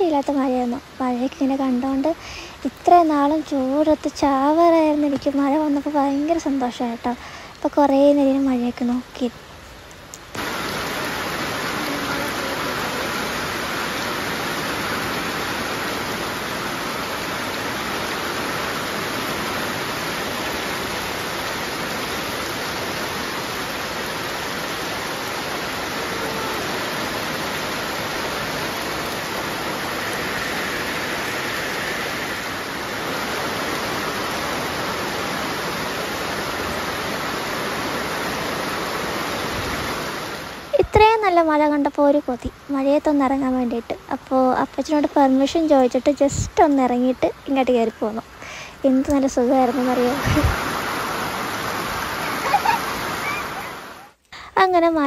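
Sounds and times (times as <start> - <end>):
heavy rain on trees and ground: 0.0 - 55.0.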